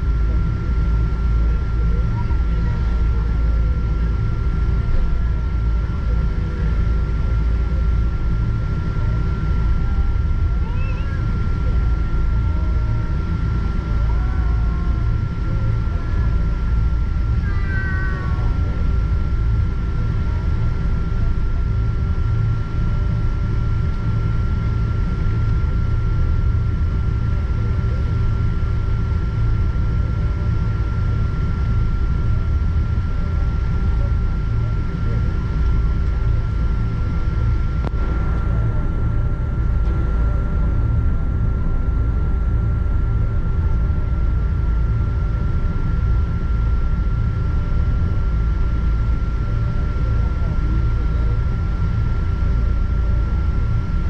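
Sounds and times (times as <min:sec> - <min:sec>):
aircraft cabin low rumble: 0:00.0 - 0:54.0
steady engine whine: 0:00.0 - 0:54.0.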